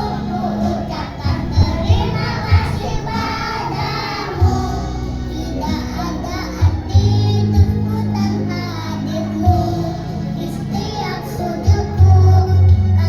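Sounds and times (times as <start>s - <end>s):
music with low bass hits: 0.0s - 11.0s
children's choir singing: 0.0s - 13.0s.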